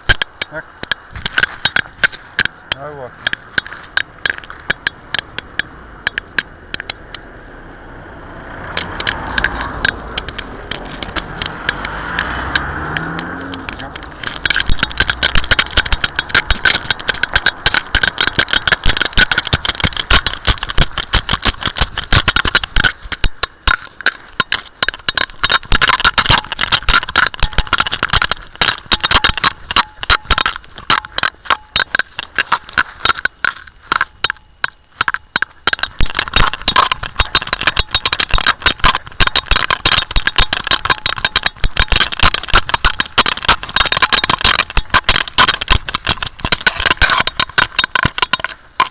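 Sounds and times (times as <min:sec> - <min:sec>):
camera clattering against fur and collar: 0:00.0 - 0:07.3, 0:08.6 - 0:48.9.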